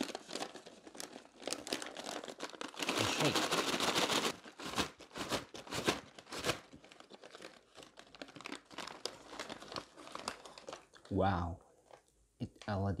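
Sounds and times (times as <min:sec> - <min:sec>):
fries rustling in a shaken bag: 0:00.0 - 0:11.2
paper bag crinkling: 0:00.0 - 0:11.2.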